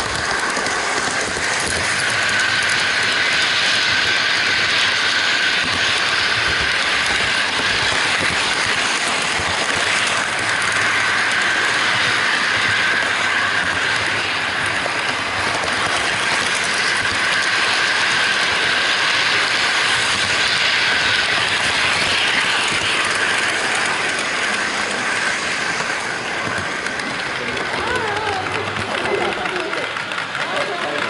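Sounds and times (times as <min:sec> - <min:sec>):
model train motor whirring: 0:00.0 - 0:31.0
model train wheels clicking on rails: 0:00.0 - 0:31.0.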